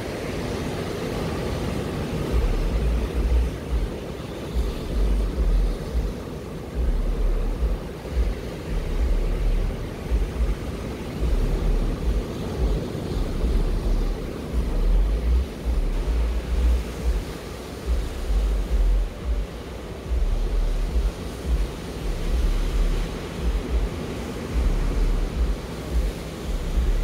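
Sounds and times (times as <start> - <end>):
breaking surf: 0.0 - 27.0
wind buffeting microphone: 0.0 - 27.0.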